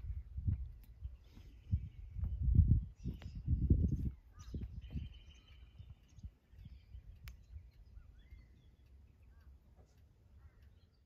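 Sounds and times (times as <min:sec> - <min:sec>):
distant bird chirps: 0:00.0 - 0:11.0.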